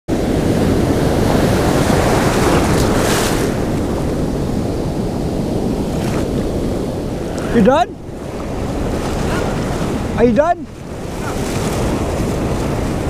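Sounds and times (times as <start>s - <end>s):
ocean surf rushing: 0.1s - 13.0s
wind buffeting microphone: 0.1s - 13.0s.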